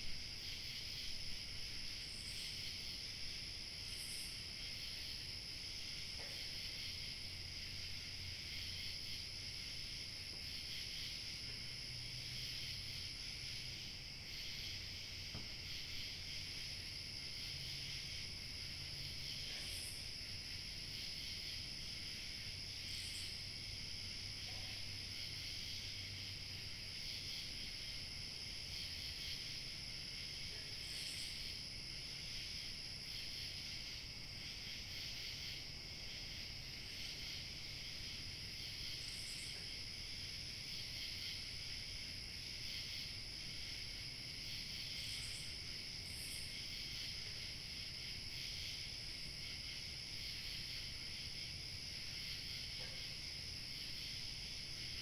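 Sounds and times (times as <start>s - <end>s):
crickets chirping: 0.0s - 55.0s
high insect whine: 0.0s - 55.0s.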